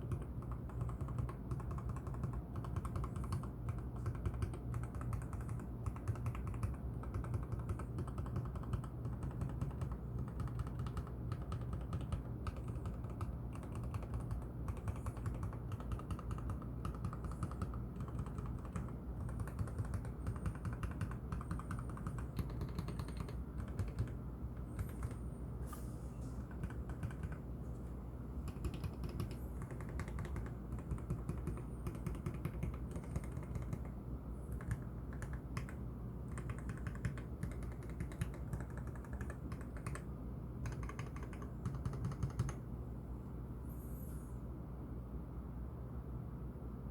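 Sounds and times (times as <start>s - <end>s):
typing on mechanical keyboard: 0.0s - 25.3s, 26.4s - 27.5s, 28.4s - 42.6s.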